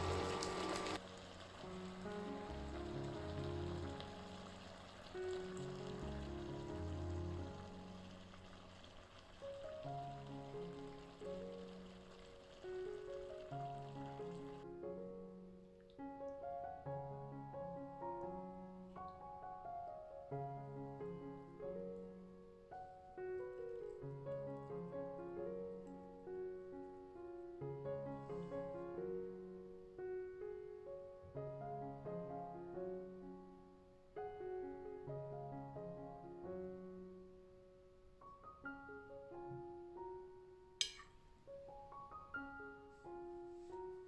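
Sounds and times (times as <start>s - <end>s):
soft piano music: 0.0s - 44.0s.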